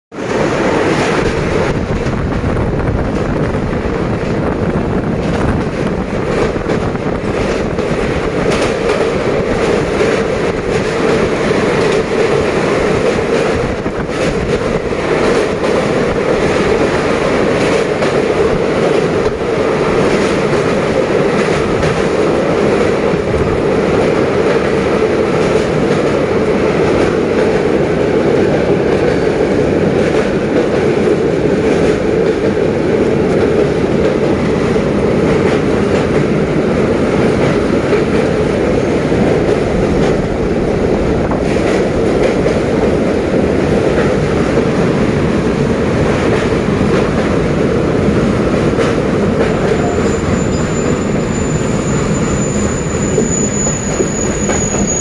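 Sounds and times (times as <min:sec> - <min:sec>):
train wheels on rails: 0:00.1 - 0:55.0.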